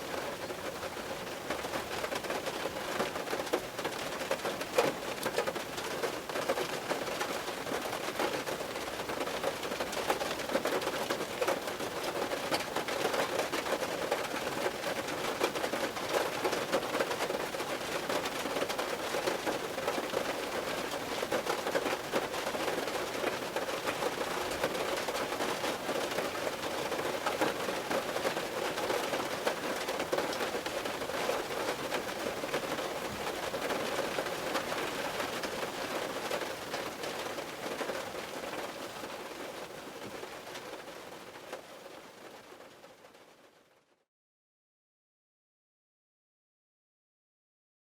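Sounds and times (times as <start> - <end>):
rain drumming on a car roof: 0.0 - 43.6.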